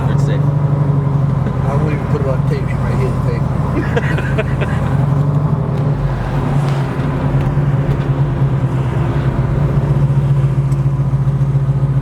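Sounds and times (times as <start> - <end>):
vee-eight engine pulsing exhaust: 0.0 - 12.0.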